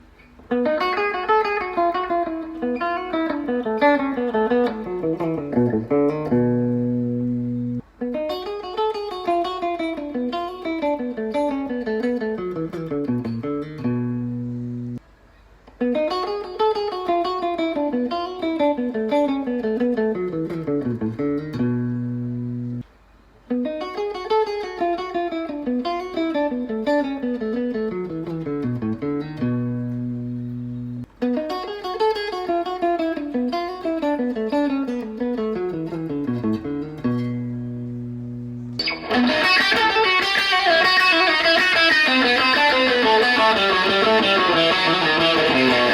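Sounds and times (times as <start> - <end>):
electric guitar playing: 0.5 - 15.0, 15.8 - 22.8, 23.5 - 45.9.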